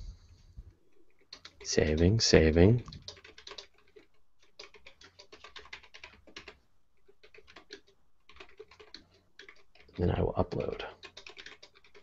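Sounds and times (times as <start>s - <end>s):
typing on a computer keyboard: 0.9s - 12.0s.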